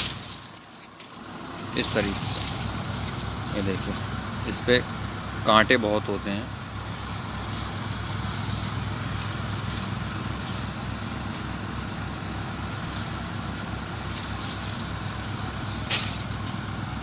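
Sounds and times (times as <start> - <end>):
faint rustles: 0.0 - 4.5, 6.9 - 16.8
engine throbbing drone: 0.0 - 17.0.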